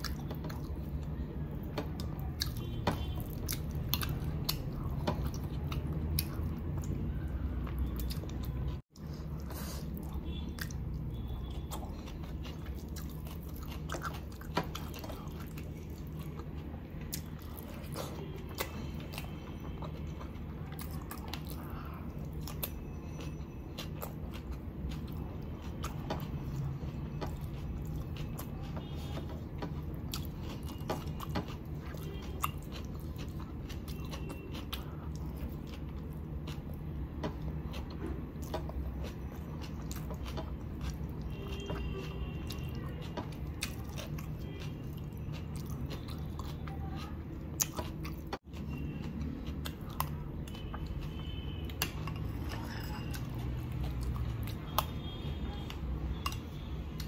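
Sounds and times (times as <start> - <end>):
chewing crunchy salad: 0.0 - 57.0.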